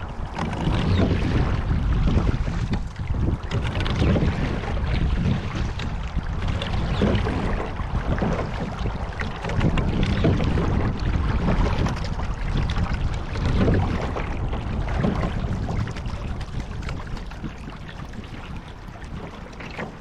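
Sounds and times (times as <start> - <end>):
water rushing along a boat hull: 0.0 - 20.0
wind rumbling on microphone: 0.0 - 20.0.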